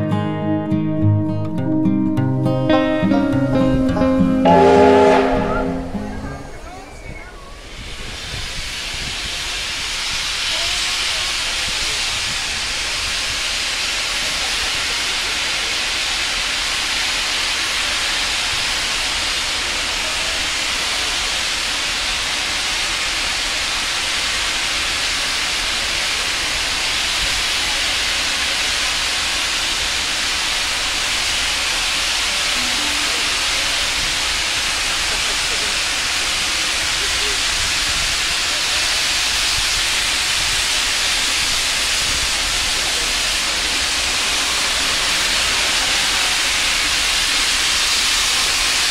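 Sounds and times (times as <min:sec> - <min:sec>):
steam locomotive hissing steam: 0:04.4 - 0:48.9.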